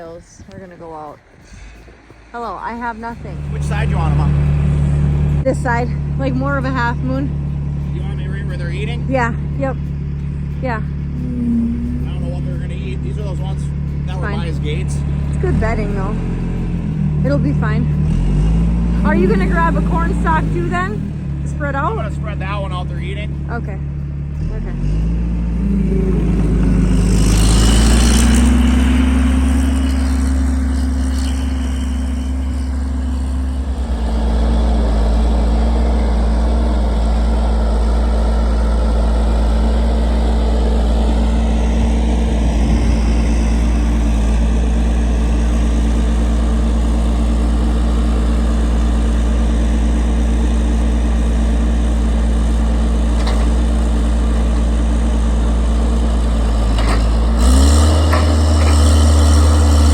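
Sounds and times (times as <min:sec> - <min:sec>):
farm machinery engine running: 0:00.0 - 0:59.9.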